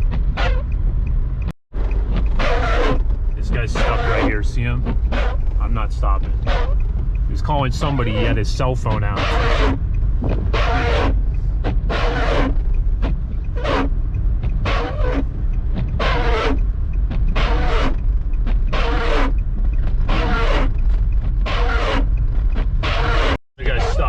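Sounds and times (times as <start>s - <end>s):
car engine and road rumble: 0.0s - 24.0s
windshield wiper swishing: 1.8s - 24.0s.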